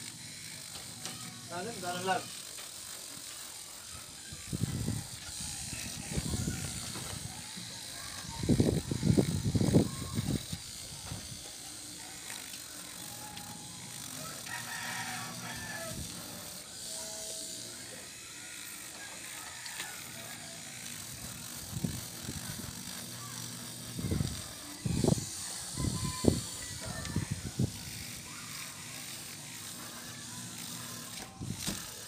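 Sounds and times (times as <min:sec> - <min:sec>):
electric nail drill buffing nail: 0:00.0 - 0:32.0.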